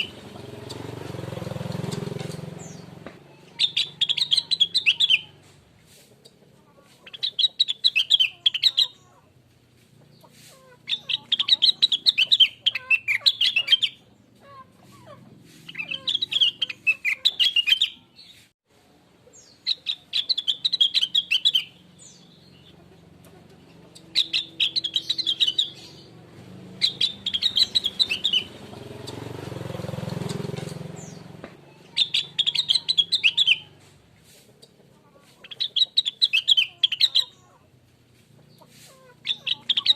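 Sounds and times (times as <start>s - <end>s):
leafbird singing twittering notes: 0.0s - 5.4s, 7.0s - 9.1s, 10.1s - 14.2s, 15.5s - 18.4s, 19.3s - 33.9s, 35.4s - 37.6s, 38.5s - 39.9s.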